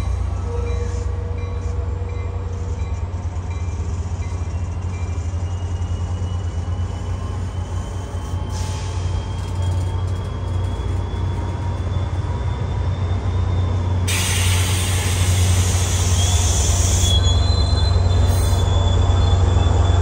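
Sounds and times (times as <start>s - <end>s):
faint train whine: 0.0s - 20.0s
train rumbling: 0.0s - 20.0s.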